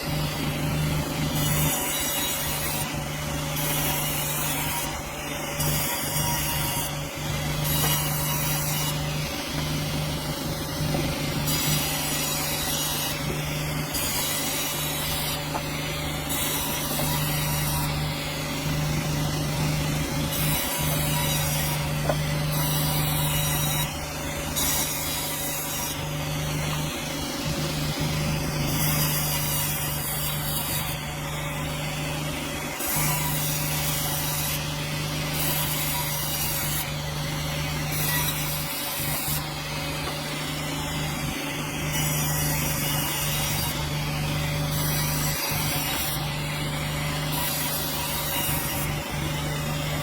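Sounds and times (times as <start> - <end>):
machine drone: 0.0 - 50.0
saw hissing through log: 0.0 - 50.0.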